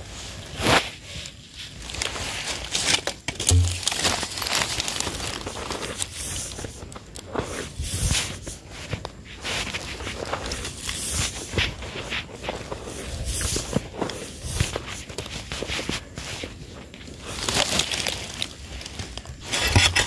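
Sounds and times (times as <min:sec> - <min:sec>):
hand scraping dry soil: 0:00.0 - 0:20.0.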